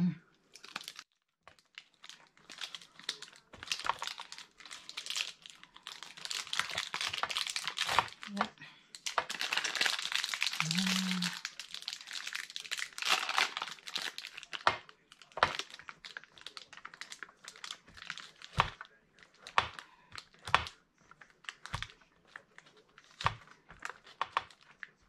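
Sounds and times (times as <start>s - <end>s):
plastic wrapper crinkling: 0.4s - 25.0s.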